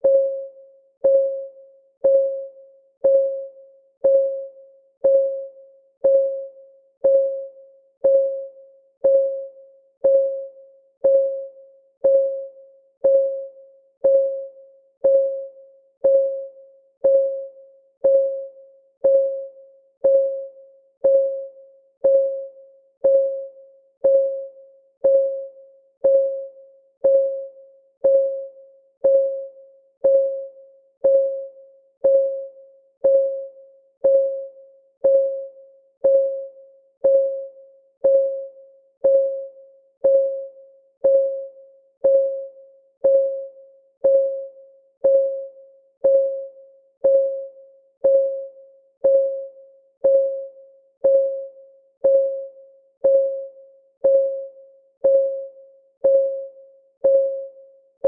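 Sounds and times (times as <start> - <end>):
timer ticking pings: 0.0 - 57.7.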